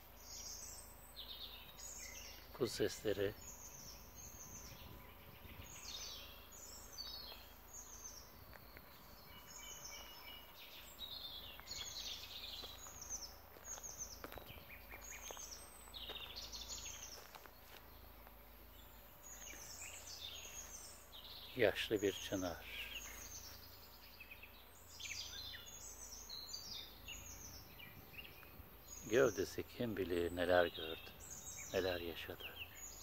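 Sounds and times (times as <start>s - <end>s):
faint background hiss: 0.0s - 33.0s
songbirds chirping and singing: 0.0s - 33.0s.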